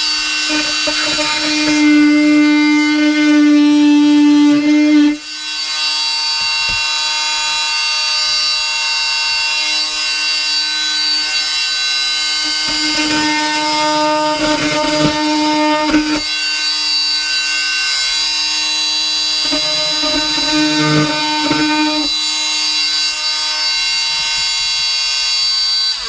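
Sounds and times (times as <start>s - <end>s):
oscillating multi-tool buzzing: 0.0s - 26.0s.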